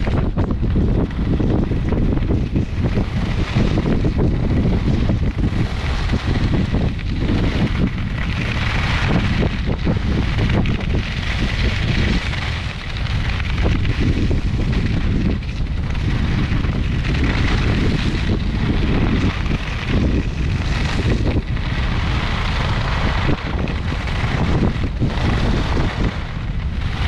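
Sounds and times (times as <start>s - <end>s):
skis scraping on snow: 0.0s - 27.0s
wind buffeting microphone: 0.0s - 27.0s.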